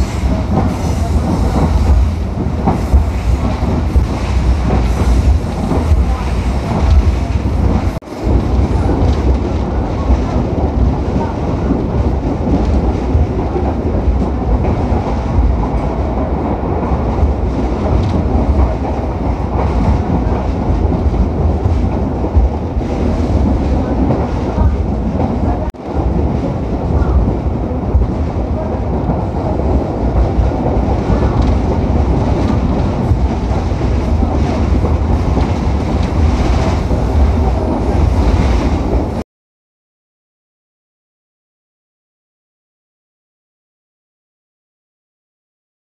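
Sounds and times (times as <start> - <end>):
train wheels rumbling on track: 0.0 - 39.2.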